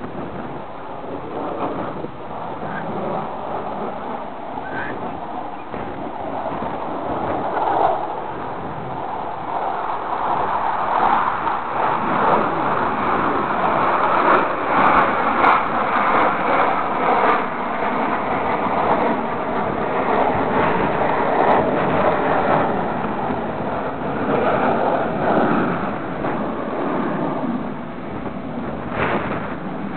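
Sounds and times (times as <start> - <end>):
rolling thunder: 0.0 - 29.9.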